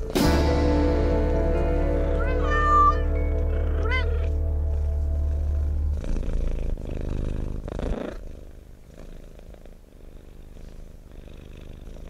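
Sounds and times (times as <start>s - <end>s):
cat purring: 2.1s - 12.0s.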